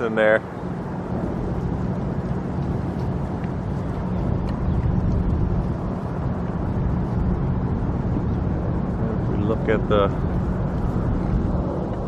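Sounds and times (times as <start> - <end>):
road noise rumble: 0.0 - 12.0.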